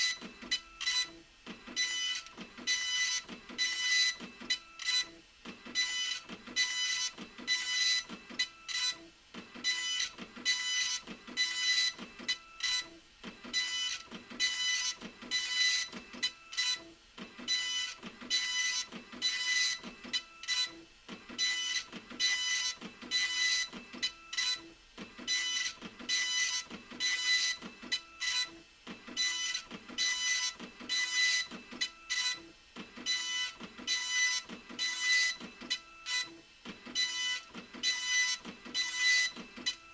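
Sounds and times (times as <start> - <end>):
dot-matrix printer printing: 0.0 - 39.9.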